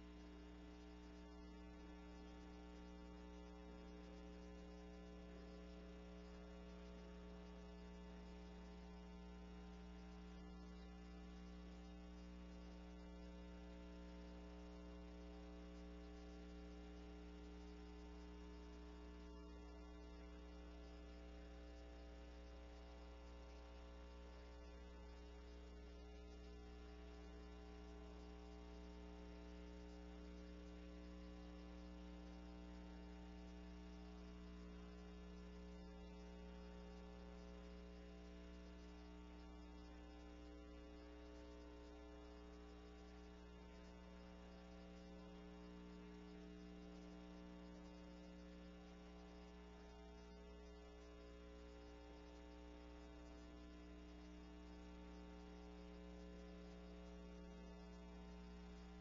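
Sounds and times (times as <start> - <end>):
low electrical mains hum: 0.0 - 59.0.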